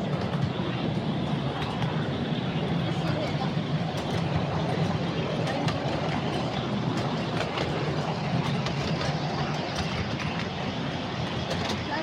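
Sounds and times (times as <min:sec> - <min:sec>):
light clicks of train: 0:00.0 - 0:12.0
miniature train rumbling on track: 0:00.0 - 0:12.0.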